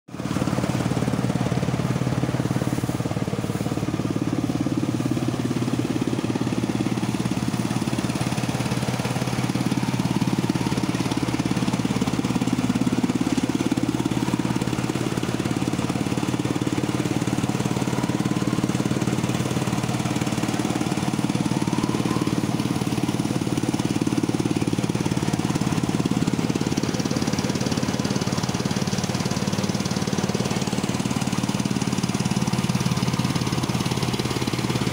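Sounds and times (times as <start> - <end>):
threshing machine running: 0.2 - 34.9.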